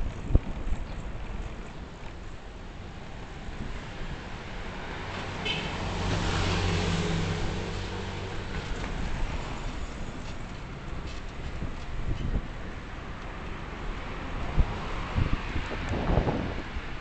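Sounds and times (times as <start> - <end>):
passing vehicle engine and tyres: 0.0 - 17.0
steady road noise: 0.0 - 17.0.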